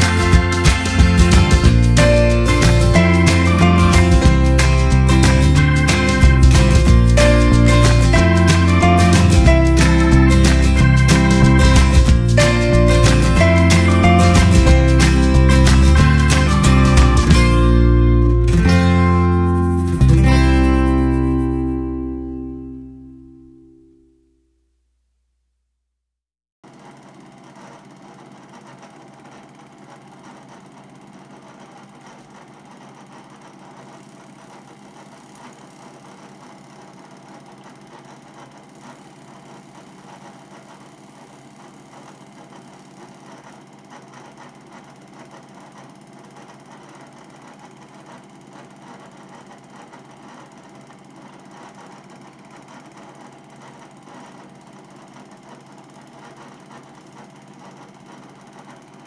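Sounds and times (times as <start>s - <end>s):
film projector whirring: 0.0s - 18.7s, 26.6s - 59.0s.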